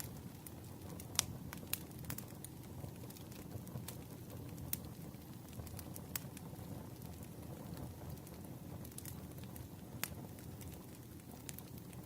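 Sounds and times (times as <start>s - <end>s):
campfire flames rushing: 0.0s - 12.0s
fire crackles and pops: 0.0s - 12.0s.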